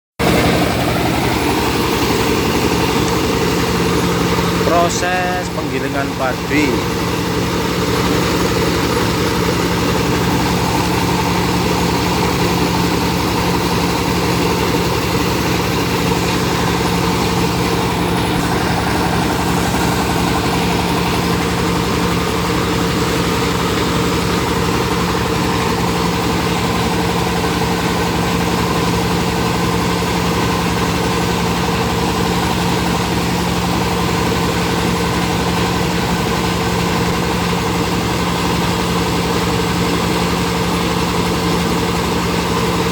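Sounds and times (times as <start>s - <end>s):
rice milling machine droning: 0.2s - 42.9s.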